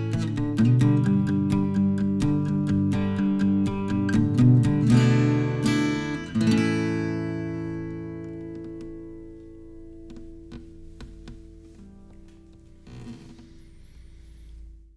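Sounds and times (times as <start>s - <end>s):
acoustic guitar strumming chords: 0.0s - 12.8s.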